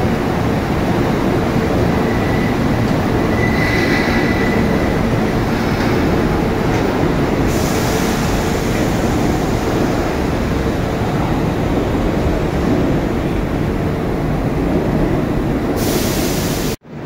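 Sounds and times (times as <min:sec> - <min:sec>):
train wheels rumbling: 0:00.0 - 0:16.8.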